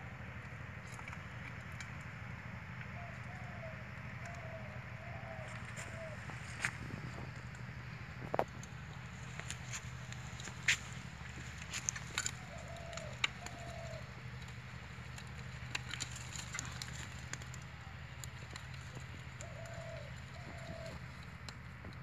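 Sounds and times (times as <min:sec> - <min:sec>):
bird calling low notes: 0:00.0 - 0:21.6.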